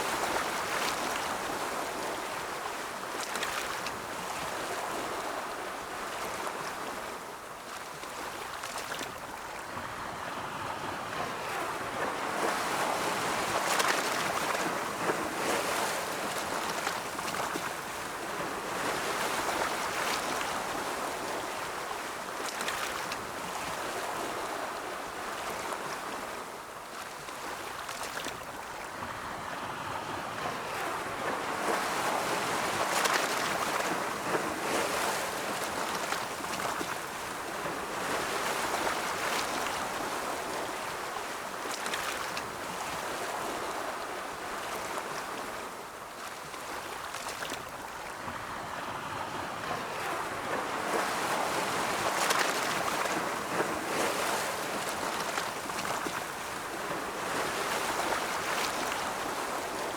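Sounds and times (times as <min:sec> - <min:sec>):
ocean waves washing on shore: 0:00.0 - 0:59.9.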